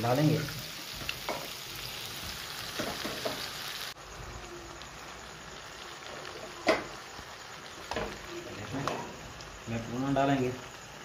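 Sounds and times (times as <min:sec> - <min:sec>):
gravy sizzling in a wok: 0:00.0 - 0:11.0.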